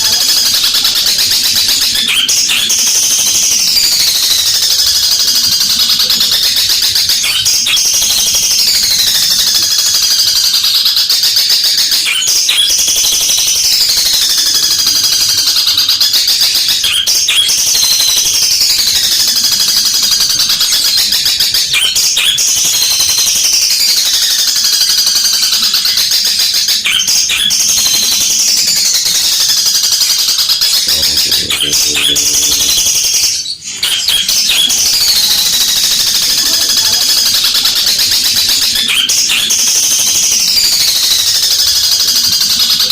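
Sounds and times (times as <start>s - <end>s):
bird singing shrill whistles: 0.0s - 42.9s.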